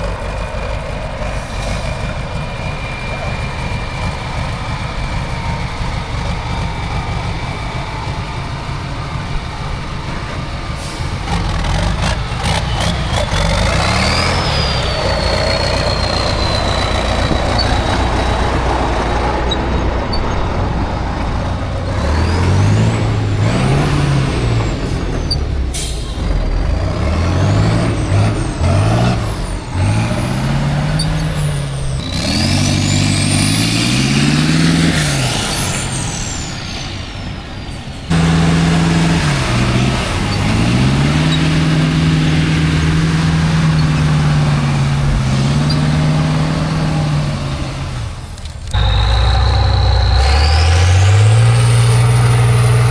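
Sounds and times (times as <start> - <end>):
diesel truck engine revving: 0.0 - 52.9.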